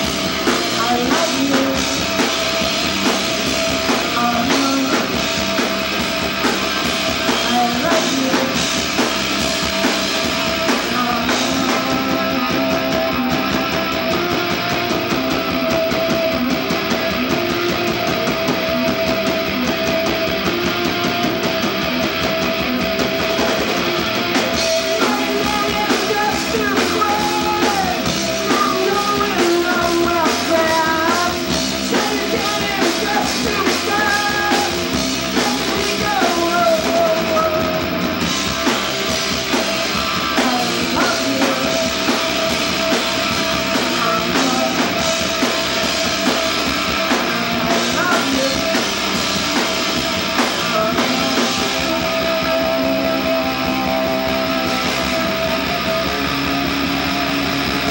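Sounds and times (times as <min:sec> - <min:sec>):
person singing: 0:00.0 - 0:38.8, 0:39.4 - 0:56.8
live rock band playing: 0:00.0 - 0:57.9.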